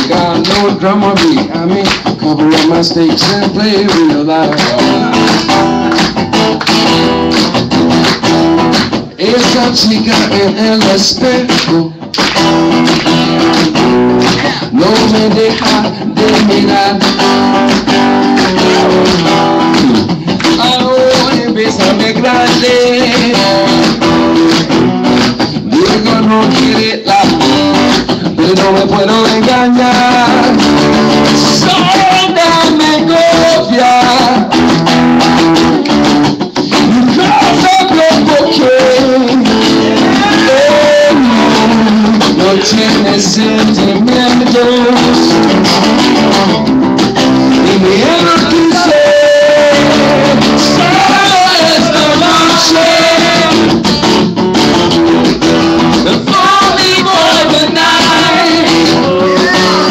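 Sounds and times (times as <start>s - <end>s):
guitar strummed and picked: 0.0s - 59.9s.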